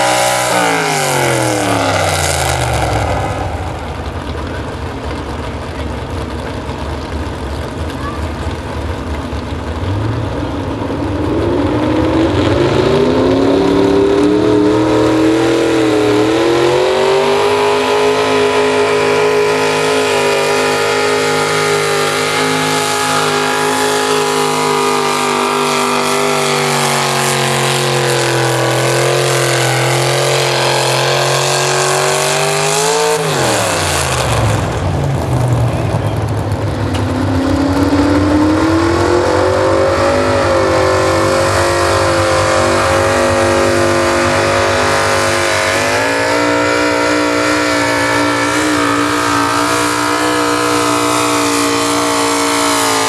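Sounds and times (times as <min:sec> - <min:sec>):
truck engine revving under load: 0:00.0 - 0:53.0.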